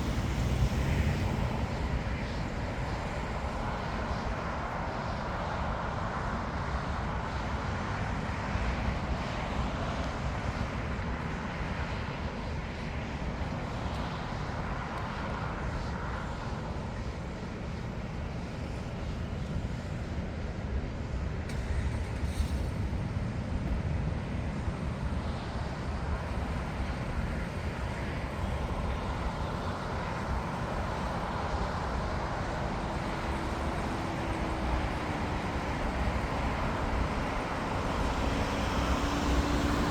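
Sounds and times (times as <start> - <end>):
distant jet engine rumble: 0.0 - 39.9.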